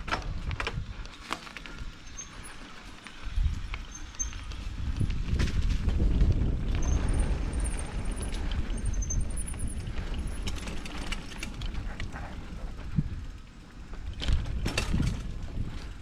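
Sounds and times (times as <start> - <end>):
bike clicks and rattles: 0.0 - 16.0
bike rolling over dirt trail: 0.0 - 16.0.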